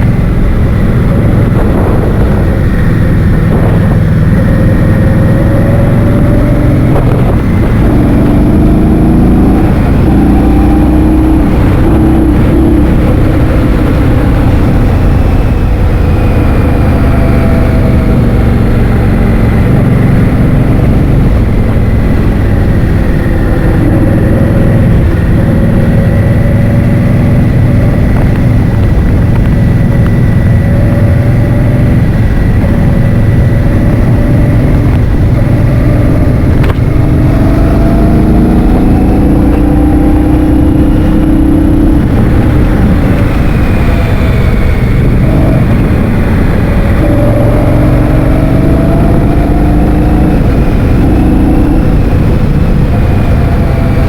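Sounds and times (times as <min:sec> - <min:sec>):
vehicle engine rising and falling: 0:00.0 - 0:54.0
wind buffeting microphone: 0:00.0 - 0:54.0.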